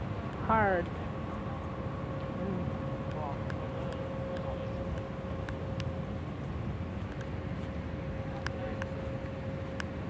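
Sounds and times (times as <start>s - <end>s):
faint steady hum: 0.0s - 10.0s
low outdoor rumble: 0.0s - 10.0s.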